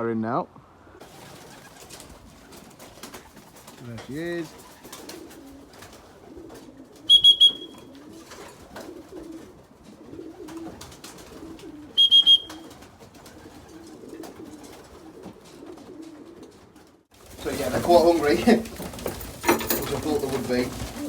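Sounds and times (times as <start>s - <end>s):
pigeons cooing: 0.9s - 21.0s.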